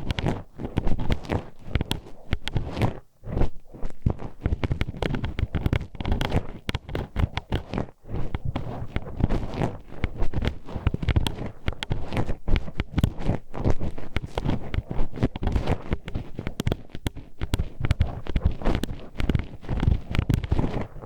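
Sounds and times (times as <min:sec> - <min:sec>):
hairpin scraping microphone: 0:00.0 - 0:21.0.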